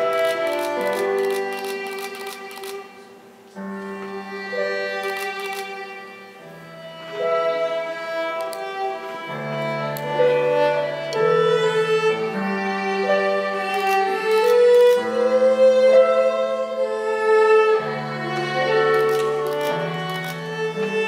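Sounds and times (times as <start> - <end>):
bowed strings slow melody: 0.0 - 21.0.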